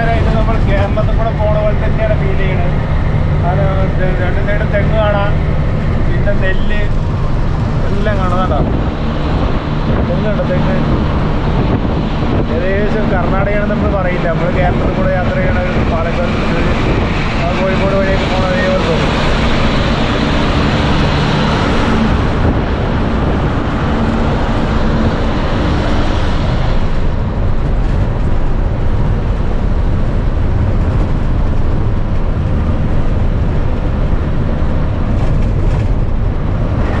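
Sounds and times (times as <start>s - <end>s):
bus engine drone: 0.0s - 37.0s
wind and tyre hiss: 0.0s - 37.0s.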